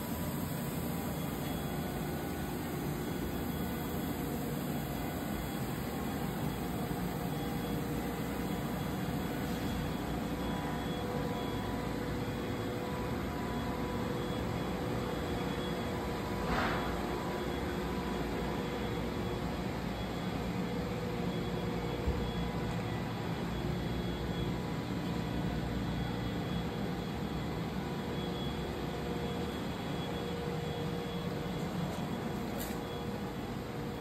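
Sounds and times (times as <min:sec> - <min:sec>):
faint steady tones: 0:00.0 - 0:34.0
industrial machinery humming: 0:00.0 - 0:34.0.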